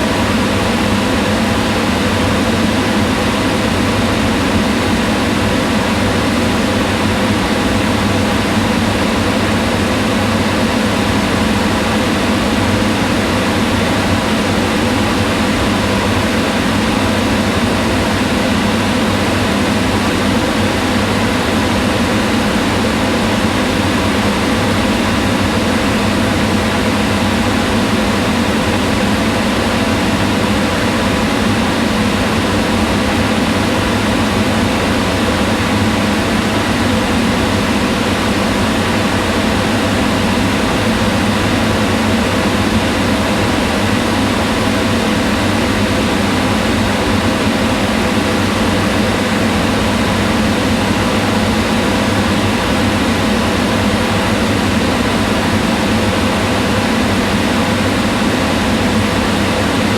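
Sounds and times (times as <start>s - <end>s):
range hood fan running: 0.0s - 59.9s.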